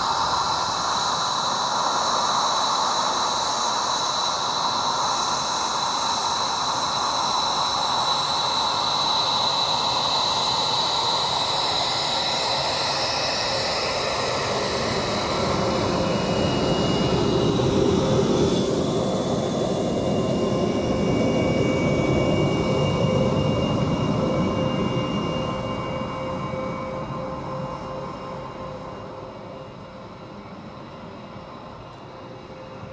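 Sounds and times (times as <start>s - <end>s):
jet engines whining and rumbling: 0.0s - 32.9s.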